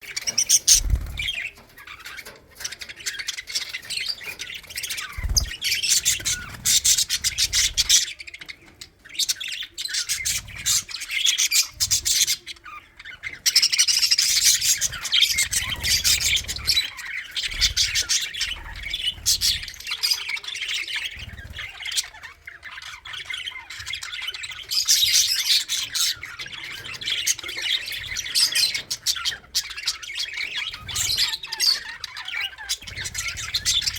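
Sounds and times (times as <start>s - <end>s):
budgerigars chirping and chattering: 0.0s - 33.9s.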